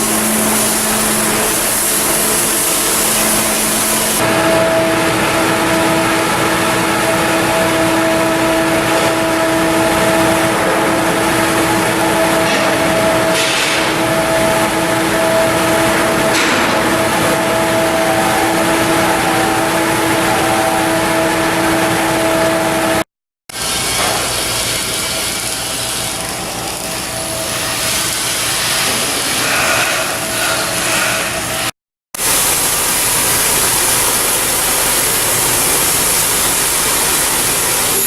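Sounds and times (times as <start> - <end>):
machinery hum: 0.0 - 38.0.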